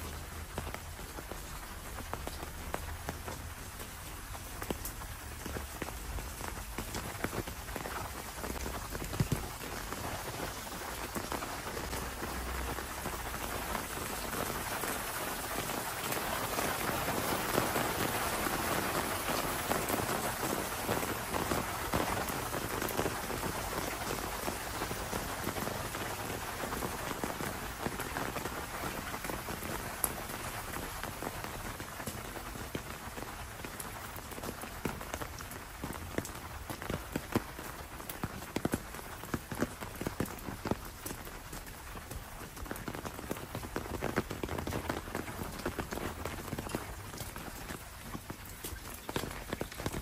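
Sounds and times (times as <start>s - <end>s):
rain on stone paving: 0.0s - 50.0s.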